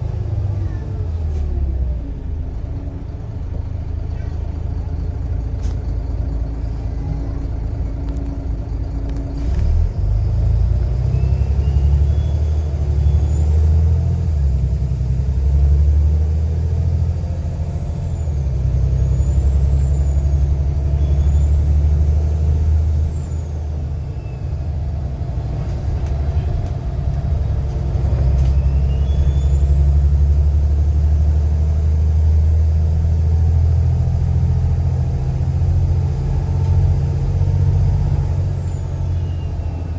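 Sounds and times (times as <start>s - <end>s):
bus diesel engine rumble: 0.0s - 39.9s.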